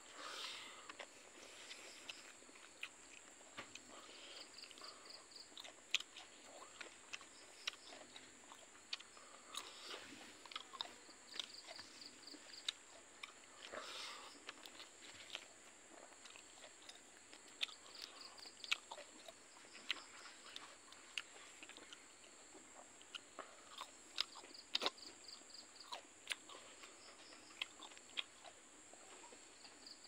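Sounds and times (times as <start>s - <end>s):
chewing with crunches: 0.0s - 30.0s.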